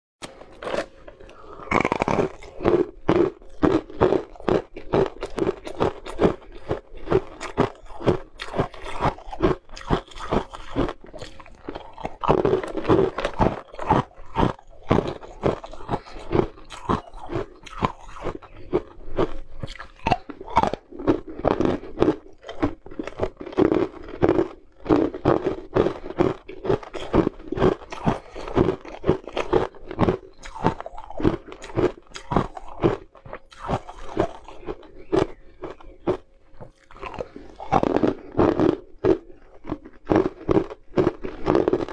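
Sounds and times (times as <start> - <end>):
ice cubes crunching in teeth: 0.2 - 41.9.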